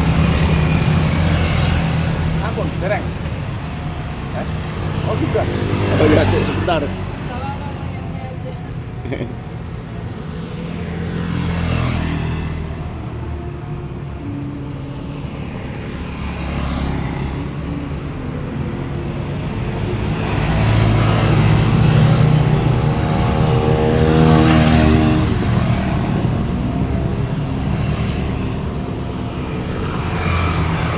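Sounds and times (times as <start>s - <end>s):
vehicles passing by: 0.0s - 30.9s.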